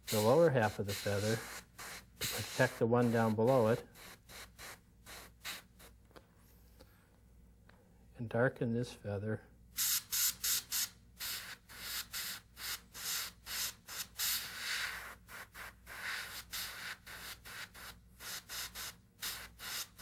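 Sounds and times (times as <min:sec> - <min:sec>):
airbrush hissing bursts: 0:00.0 - 0:06.0, 0:09.8 - 0:20.0.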